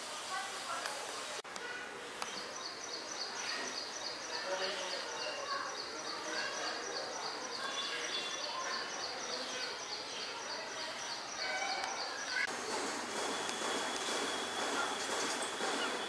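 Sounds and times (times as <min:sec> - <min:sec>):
birds chirping: 0:01.7 - 0:16.0.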